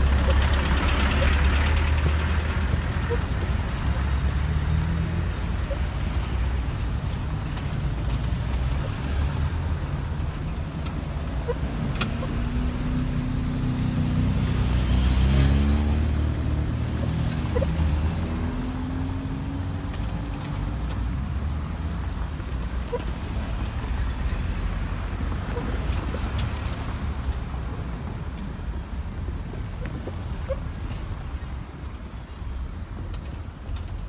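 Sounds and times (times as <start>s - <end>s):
vehicles driving past: 0.0s - 34.0s.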